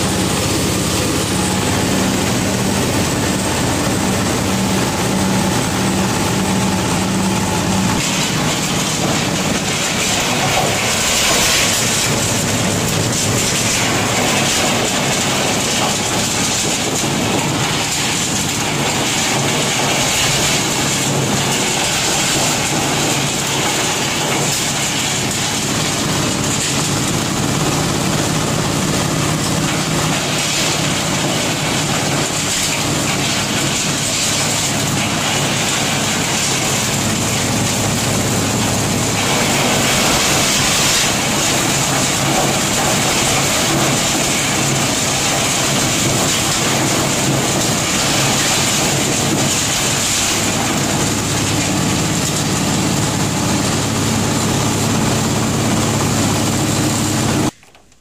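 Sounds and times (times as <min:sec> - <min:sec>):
diesel engine drone: 0:00.0 - 0:57.6
nuts rattling in machine drum: 0:00.0 - 0:58.0.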